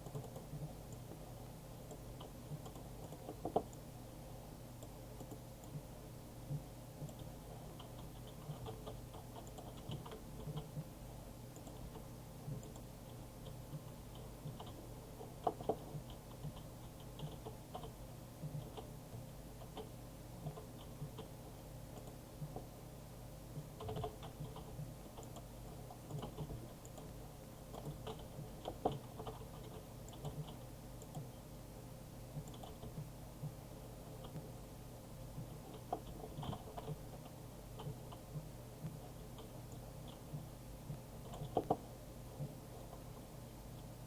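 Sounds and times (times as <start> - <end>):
light clicks and ticks: 0.0 - 3.9, 4.8 - 5.9, 6.5 - 10.9, 11.5 - 22.7, 23.5 - 31.4, 32.3 - 34.6, 35.3 - 43.9
low steady hum: 0.0 - 44.0.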